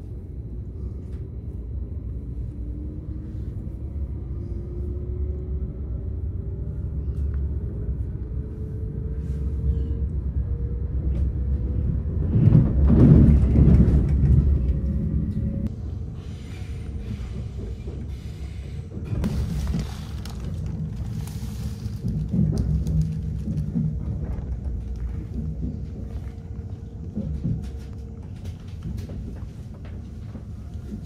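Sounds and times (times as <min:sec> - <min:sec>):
train rumble inside carriage: 0:00.0 - 0:31.0.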